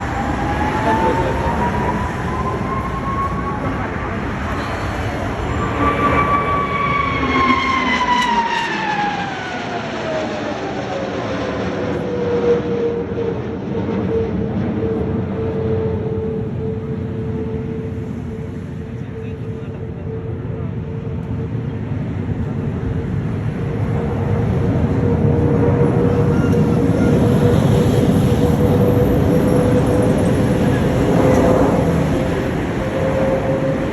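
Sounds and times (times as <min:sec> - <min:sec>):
aircraft flying past: 0:00.0 - 0:33.9.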